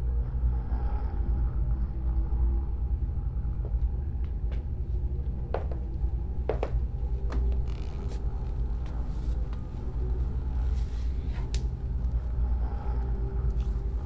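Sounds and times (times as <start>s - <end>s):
deep low rumbling drone: 0.0s - 14.0s.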